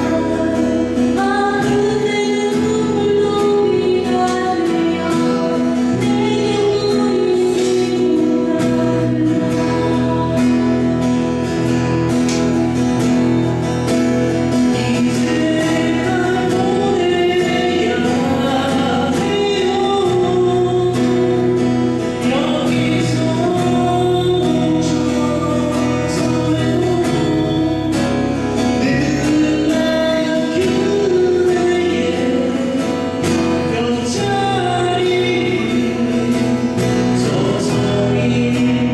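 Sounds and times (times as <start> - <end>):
person singing: 0.0 - 12.3, 14.2 - 38.9
guitar with steady beat: 0.0 - 38.9.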